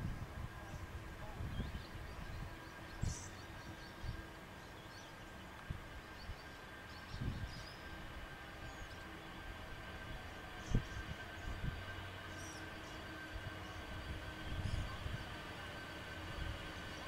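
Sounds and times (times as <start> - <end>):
steady distant hum: 0.0 - 17.0.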